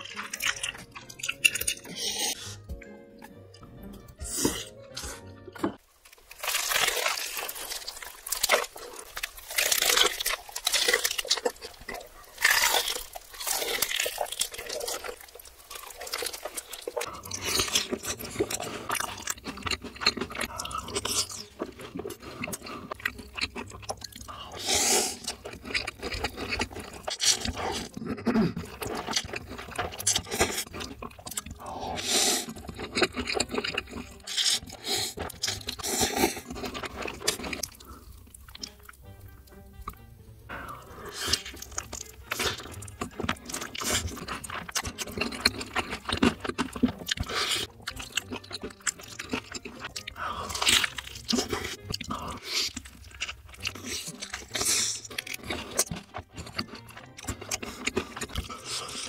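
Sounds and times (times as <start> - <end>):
crunchy bites of fried chicken: 6.0 - 59.0.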